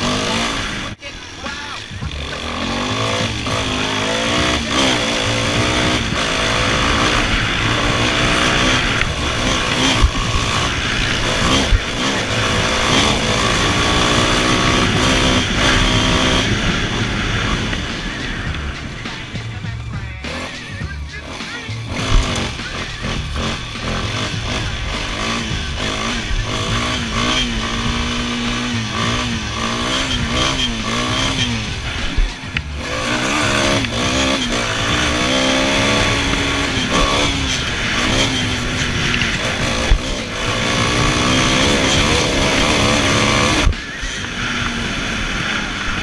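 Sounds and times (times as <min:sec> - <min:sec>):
atv engine revving: 0:00.0 - 0:46.0.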